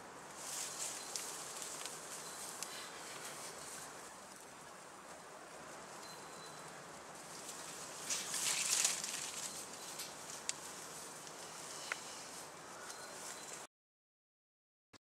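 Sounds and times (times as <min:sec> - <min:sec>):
rustle: 0:00.0 - 0:13.7
steady background hiss: 0:00.0 - 0:13.7.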